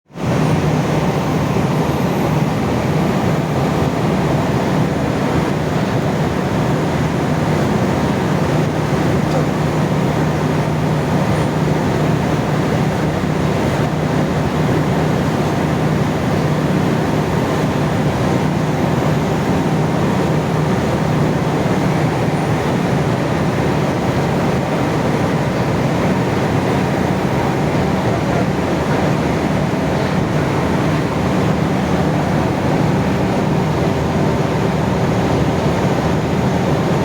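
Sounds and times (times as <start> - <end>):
industrial machinery humming: 0.1 - 37.0.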